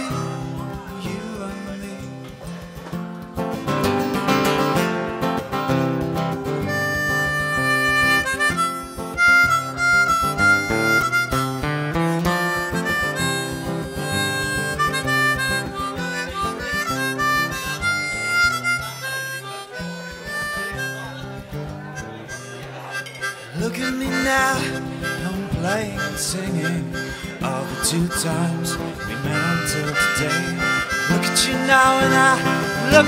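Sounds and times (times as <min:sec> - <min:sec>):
strummed acoustic guitar: 0:00.0 - 0:33.0
harmonica solo: 0:05.7 - 0:33.0.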